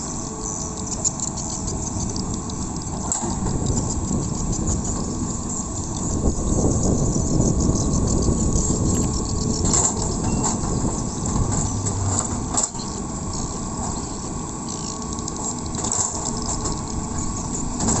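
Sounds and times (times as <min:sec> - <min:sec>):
excavator diesel engine running: 0:00.0 - 0:18.0
excavator bucket clanks and rattles: 0:00.9 - 0:14.2, 0:15.4 - 0:18.0.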